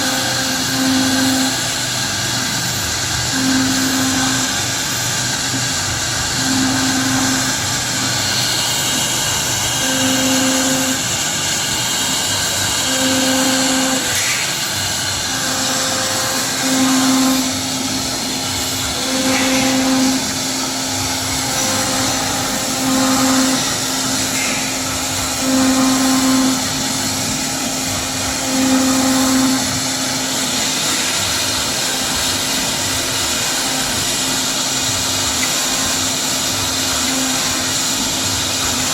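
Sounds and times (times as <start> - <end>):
cnc router cutting: 0.0 - 38.9.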